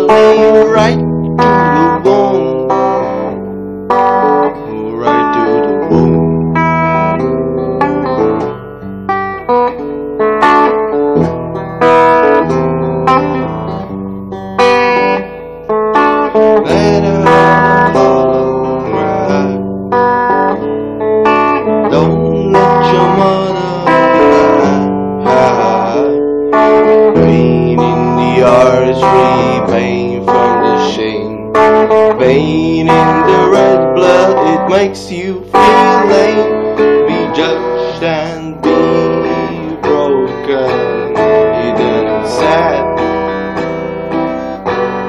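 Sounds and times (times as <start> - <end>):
acoustic guitar plucked and strummed: 0.0 - 45.0
wavering melody line: 0.0 - 45.0.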